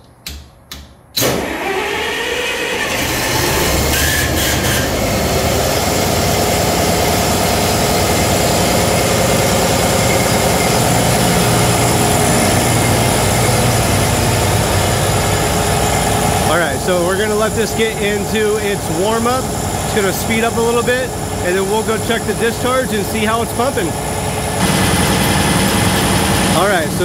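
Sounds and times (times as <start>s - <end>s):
engine idling: 1.3s - 27.0s.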